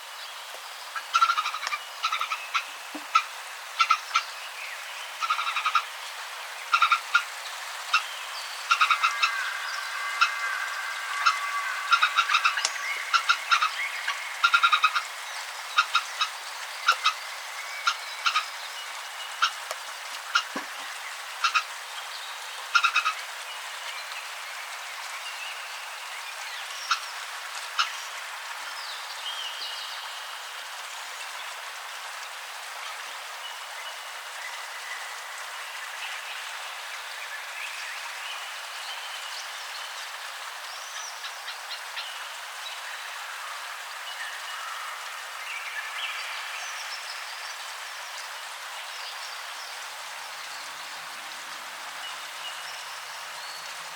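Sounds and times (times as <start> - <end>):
steady background hiss: 0.0 - 53.9
frogs croaking: 0.7 - 29.1, 32.2 - 53.9.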